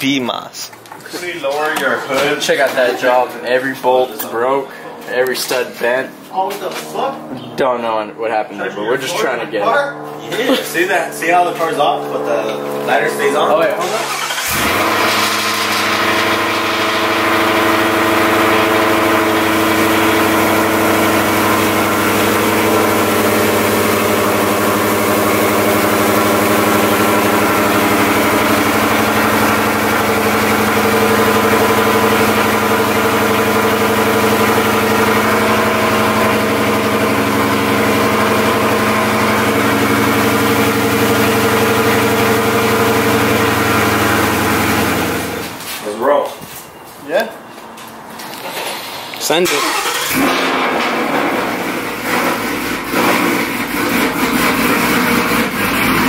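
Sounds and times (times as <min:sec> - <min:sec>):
car engine idling: 0:00.8 - 0:45.6, 0:49.6 - 0:56.0.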